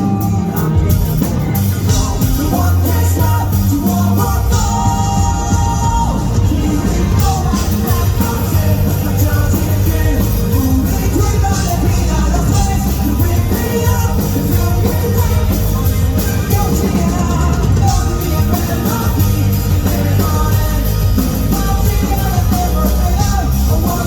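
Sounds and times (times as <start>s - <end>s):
live rock band: 0.0s - 24.0s
person singing: 0.0s - 24.0s.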